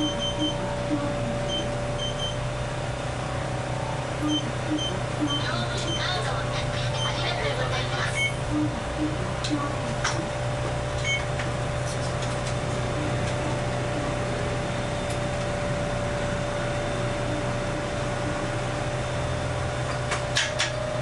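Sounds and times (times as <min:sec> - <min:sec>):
streetcar electrical hum: 0:00.0 - 0:21.0.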